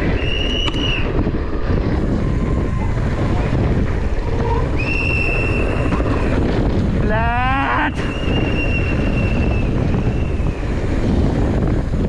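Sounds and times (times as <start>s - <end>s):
high steady squeal: 0.0s - 1.2s, 1.9s - 11.0s
wind rush on microphone: 0.0s - 12.0s.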